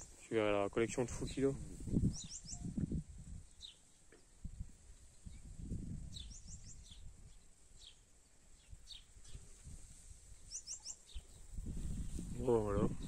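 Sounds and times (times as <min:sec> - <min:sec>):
small bird chirping: 0:02.0 - 0:13.0.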